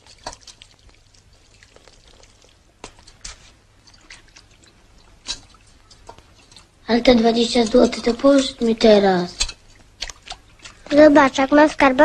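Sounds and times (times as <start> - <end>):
hands washing in sink splashes: 0.0 - 11.1.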